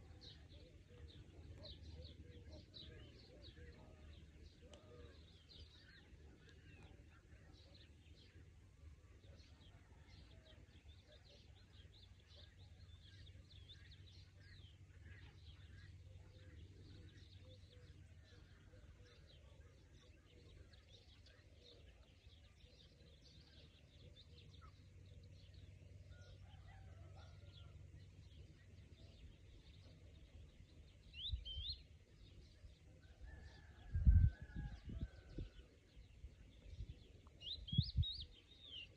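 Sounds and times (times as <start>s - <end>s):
low outdoor rumble: 0.0s - 38.9s
small birds chirping: 0.0s - 38.9s.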